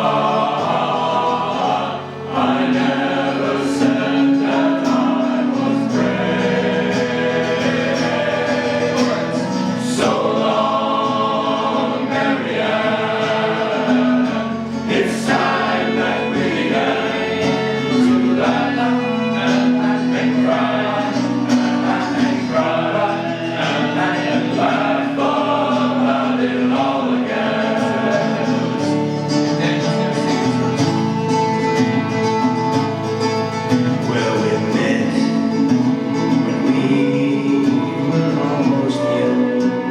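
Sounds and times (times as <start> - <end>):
choir singing sustained notes: 0.0 - 31.6, 33.7 - 39.9.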